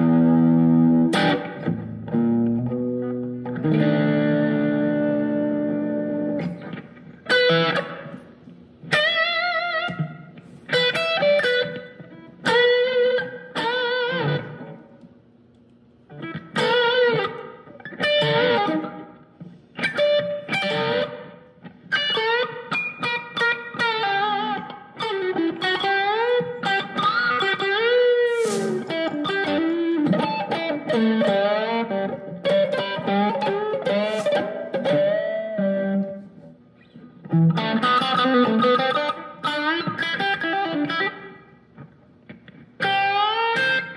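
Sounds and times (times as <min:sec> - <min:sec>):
electric guitar lead phrases: 0:00.0 - 0:15.0, 0:16.1 - 0:43.9.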